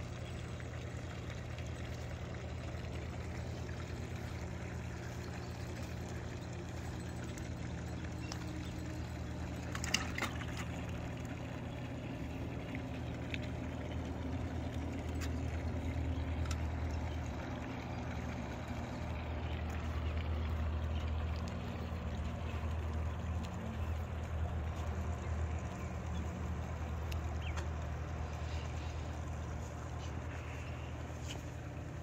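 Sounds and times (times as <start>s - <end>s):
low mechanical hum and rumble: 0.0s - 32.0s.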